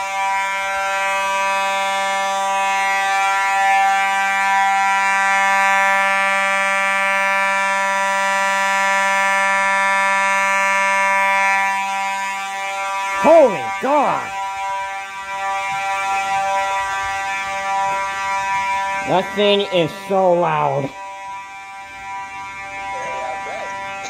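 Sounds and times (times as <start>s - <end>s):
fire alarm horn buzzing: 0.0s - 24.0s.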